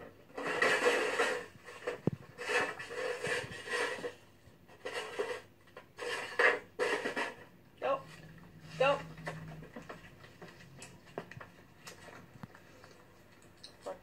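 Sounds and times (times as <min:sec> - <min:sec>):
rustling and rubbing: 0:00.2 - 0:13.4.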